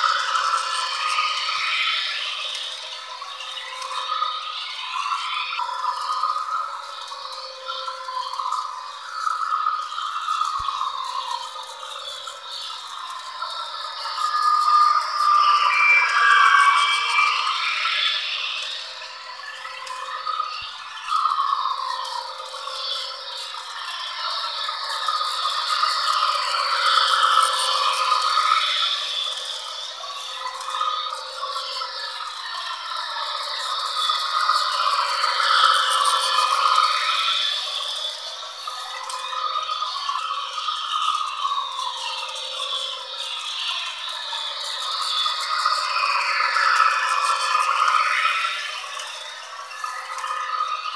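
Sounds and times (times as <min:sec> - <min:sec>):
model train motor whine: 0:00.0 - 0:50.9.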